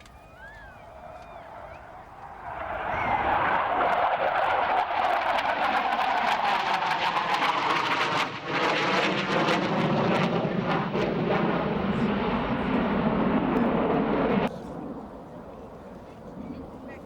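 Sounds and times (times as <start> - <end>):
jet flying low pass: 0.0 - 17.0.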